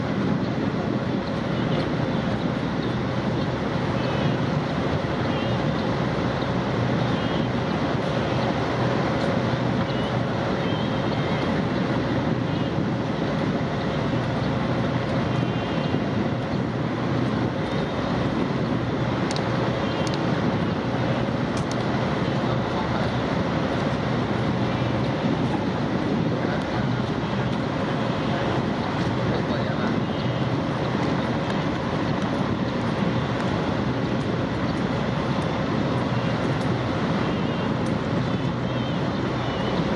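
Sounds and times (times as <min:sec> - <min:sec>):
boat engine droning: 0:00.0 - 0:39.9
water rushing: 0:00.0 - 0:39.9
wind: 0:00.0 - 0:39.9.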